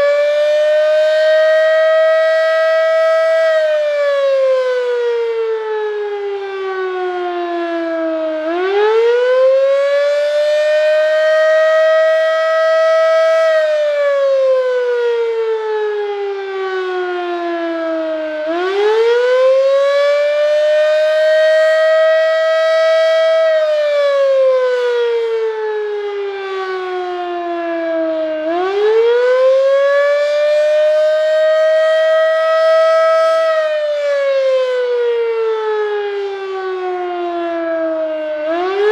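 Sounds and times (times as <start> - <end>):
fire siren wailing: 0.0 - 38.9.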